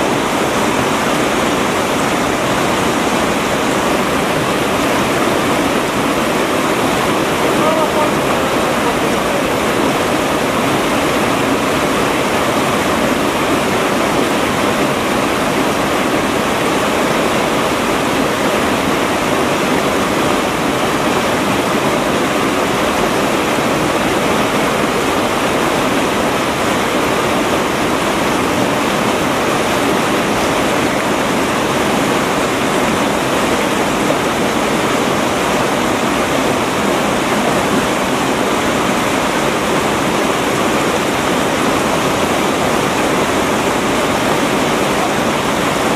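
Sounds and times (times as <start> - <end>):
river water rushing over stones: 0.0 - 45.9.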